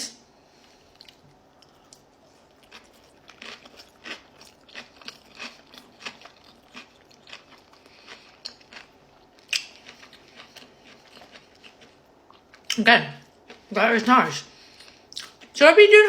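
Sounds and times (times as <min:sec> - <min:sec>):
crunchy chewing: 0:00.6 - 0:13.7.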